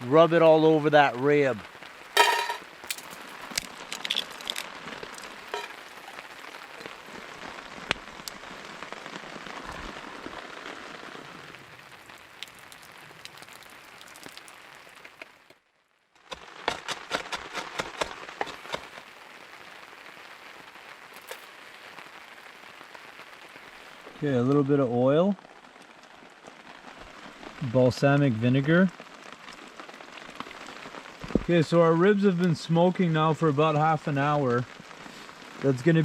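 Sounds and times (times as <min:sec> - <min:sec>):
steady rain falling: 0:00.0 - 0:36.0
sharp crackles and clicks: 0:01.0 - 0:15.6, 0:16.2 - 0:24.7, 0:25.4 - 0:31.7.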